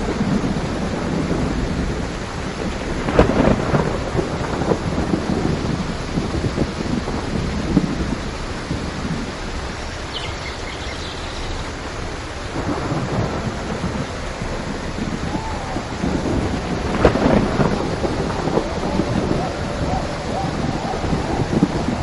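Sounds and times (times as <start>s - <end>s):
low rolling thunder: 0.0s - 22.0s
steady rain falling: 0.0s - 22.0s.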